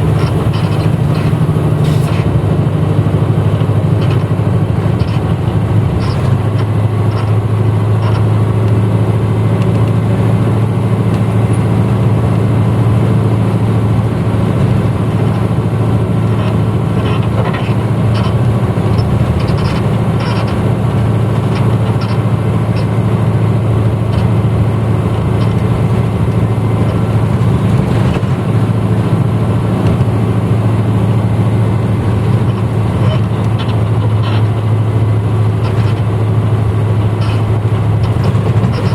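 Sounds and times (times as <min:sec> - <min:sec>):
bus engine drone: 0:00.0 - 0:38.9
light rattles and clicks: 0:00.0 - 0:38.9.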